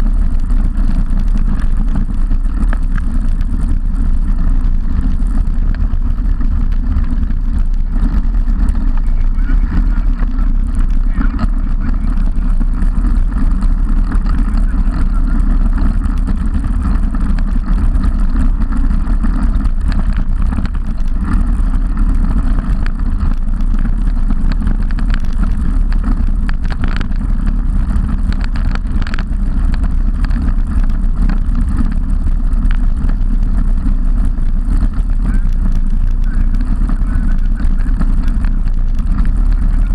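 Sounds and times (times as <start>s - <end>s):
bike clicks and rattles: 0.0s - 39.9s
road rumble: 0.0s - 39.9s
wind buffeting microphone: 0.0s - 39.9s.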